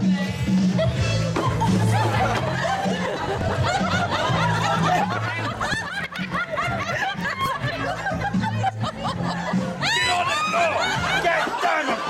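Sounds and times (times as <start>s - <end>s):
background music with bass: 0.0s - 12.0s
group of people laughing: 0.8s - 12.0s.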